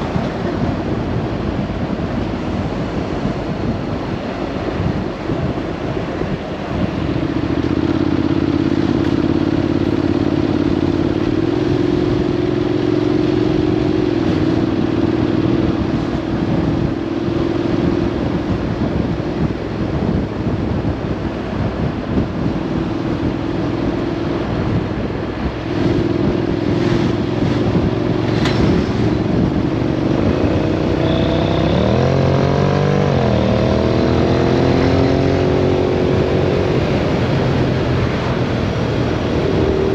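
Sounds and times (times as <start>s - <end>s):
vehicle engine cruising: 0.0s - 39.9s
wind noise on microphone: 0.0s - 39.9s.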